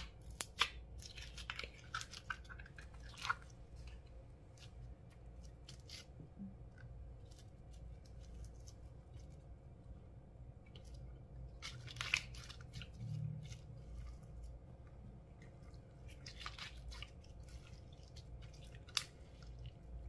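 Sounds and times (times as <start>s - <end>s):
slime crackling as mixed: 0.0s - 20.0s.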